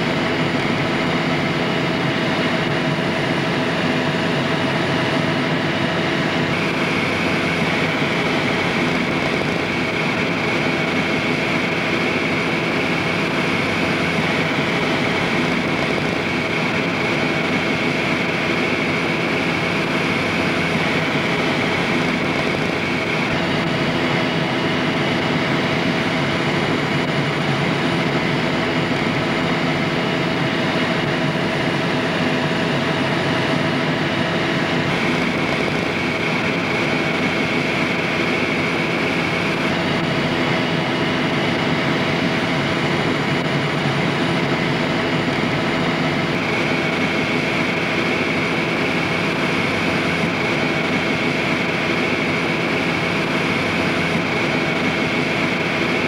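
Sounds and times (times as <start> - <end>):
helicopter drone from cabin: 0.0 - 56.0.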